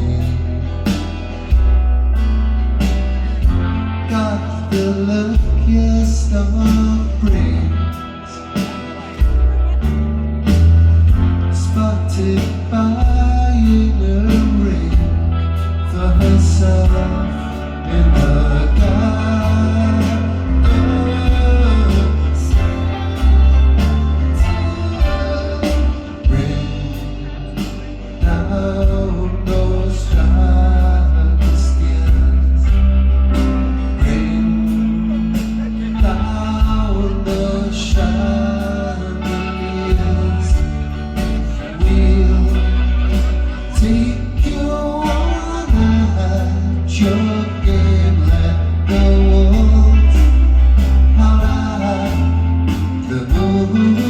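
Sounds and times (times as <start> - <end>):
drums: 0.0 - 54.0
guitar: 0.0 - 54.0
heavy bass line: 0.0 - 54.0
man singing: 0.0 - 54.0.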